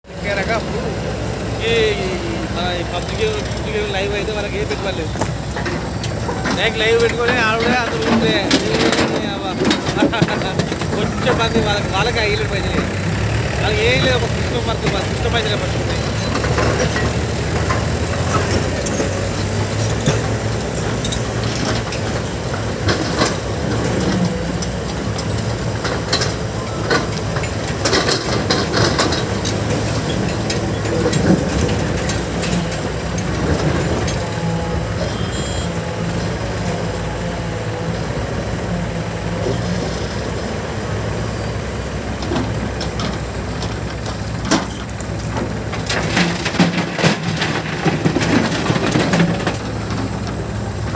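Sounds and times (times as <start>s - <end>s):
diesel engine running: 0.0s - 50.9s
machine knocks and clanks: 3.0s - 35.6s, 42.2s - 50.9s.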